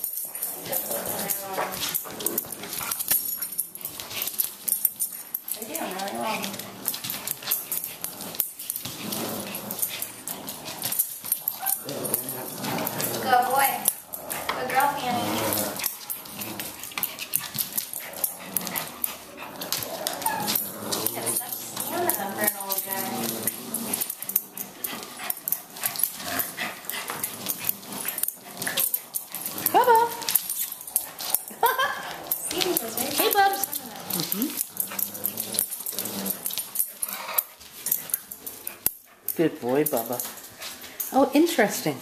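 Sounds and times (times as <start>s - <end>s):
dogs playing rough: 0.0s - 42.0s.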